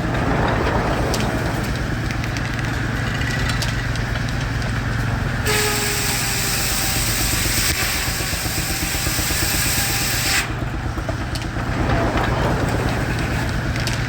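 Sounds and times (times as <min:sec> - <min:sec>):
steam traction engine running: 0:00.0 - 0:14.0.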